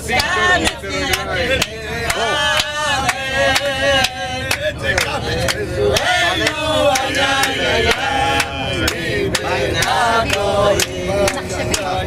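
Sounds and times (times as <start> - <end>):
group of people singing: 0.0 - 12.0
people clapping in time: 0.1 - 12.0.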